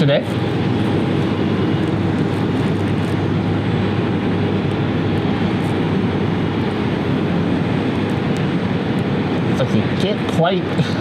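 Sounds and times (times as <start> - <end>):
aircraft engines rushing: 0.0 - 11.0.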